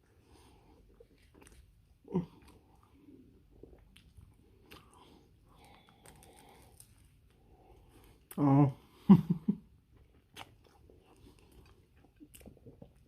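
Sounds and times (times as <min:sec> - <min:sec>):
person chewing wetly: 0:00.0 - 0:08.4, 0:09.9 - 0:13.0.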